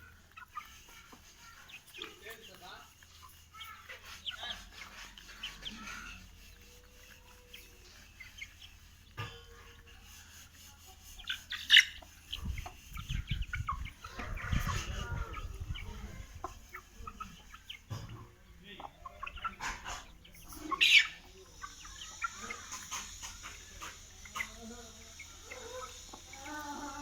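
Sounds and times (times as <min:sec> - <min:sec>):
chickens clucking: 0:00.0 - 0:27.0
chicks peeping: 0:00.0 - 0:27.0.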